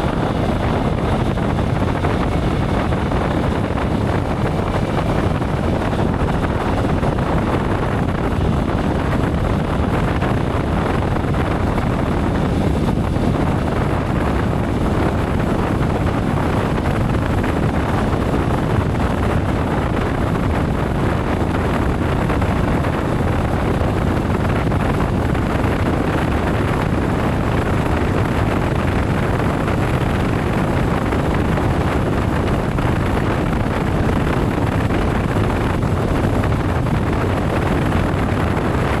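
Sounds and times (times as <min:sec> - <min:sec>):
motorcycle riding at speed: 0:00.0 - 0:39.0
wind buffeting microphone: 0:00.0 - 0:39.0.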